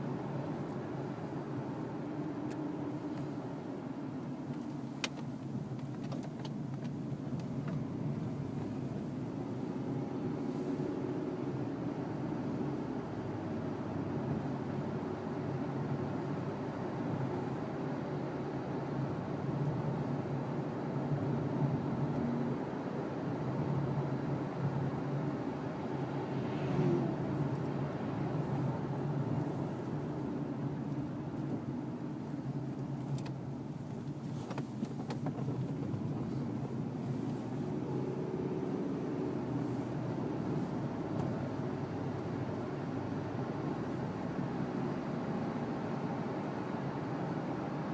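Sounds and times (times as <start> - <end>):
pickup engine and road noise: 0.0 - 47.9.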